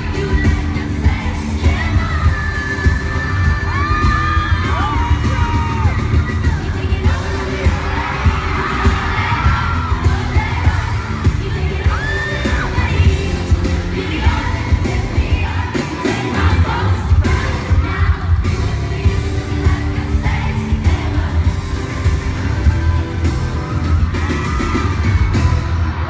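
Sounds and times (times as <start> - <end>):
women singing: 0.0 - 24.8
crowd screaming and cheering: 0.0 - 26.0
pop band with heavy bass: 0.0 - 26.0.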